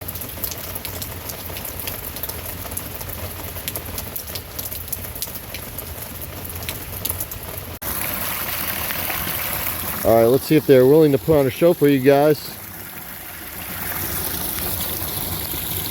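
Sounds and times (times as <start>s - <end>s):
steady rain falling: 0.0s - 15.9s.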